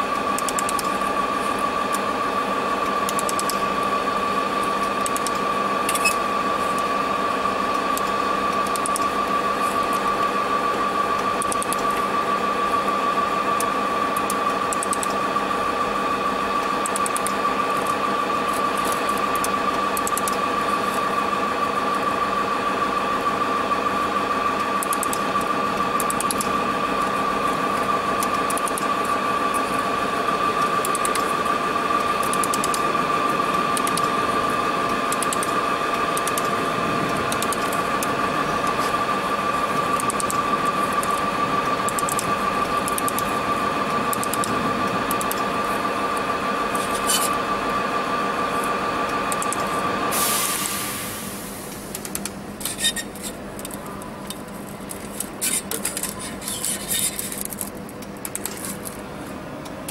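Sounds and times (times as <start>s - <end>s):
constant high whine: 0.0s - 59.9s
laser welding machine humming: 0.0s - 59.9s.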